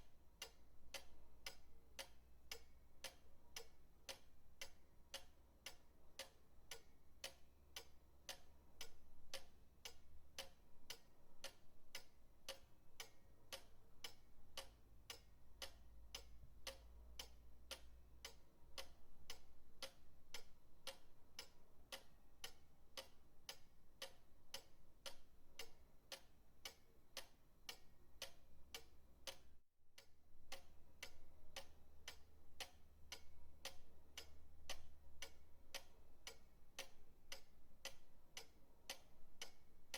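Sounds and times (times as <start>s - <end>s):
pendulum clock ticking: 0.0s - 39.9s.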